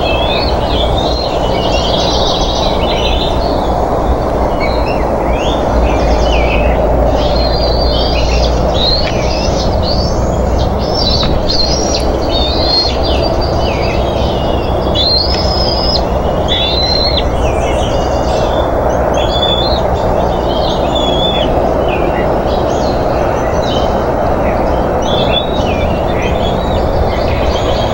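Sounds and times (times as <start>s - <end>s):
eaglets chittering calls: 0.0s - 27.9s
steady low rumble: 0.0s - 27.9s.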